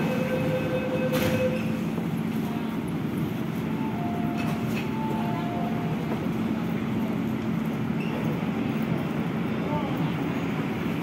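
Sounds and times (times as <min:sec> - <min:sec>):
low rumble and hum of metro platform: 0:00.0 - 0:11.0
train running in tunnel: 0:00.0 - 0:11.0.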